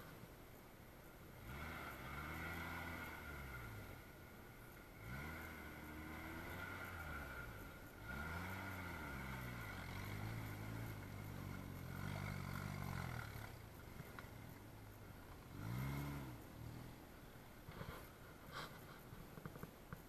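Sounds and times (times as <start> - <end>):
engine revving under load: 1.3 - 18.1.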